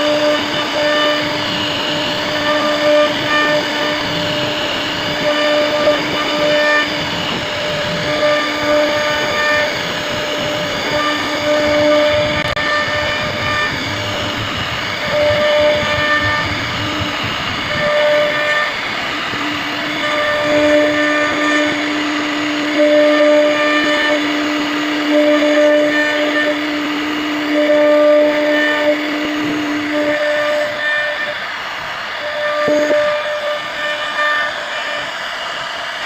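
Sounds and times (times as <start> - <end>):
higher machine whine: 0.0 - 36.0
router machine whine: 0.0 - 36.0.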